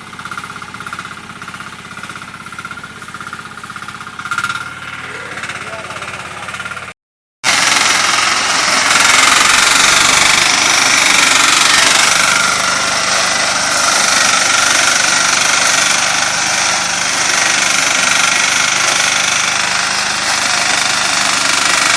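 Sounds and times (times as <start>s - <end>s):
engine noise: 0.0s - 21.9s
harvesting machine clatter: 0.1s - 6.9s, 7.5s - 21.9s.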